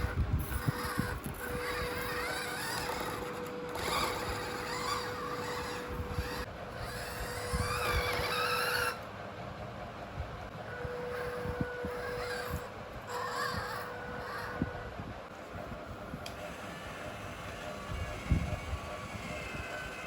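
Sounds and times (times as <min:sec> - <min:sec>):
small electric motor whining: 0:00.0 - 0:09.1, 0:10.7 - 0:20.0.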